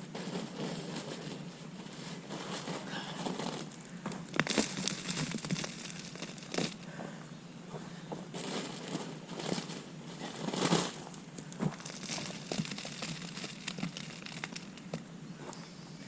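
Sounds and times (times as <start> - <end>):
wood mulch rustling: 0.0 - 7.0, 8.3 - 15.6.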